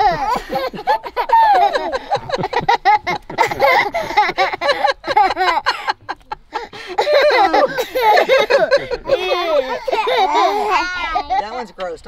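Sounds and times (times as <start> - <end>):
adults talking and laughing: 0.0 - 12.0.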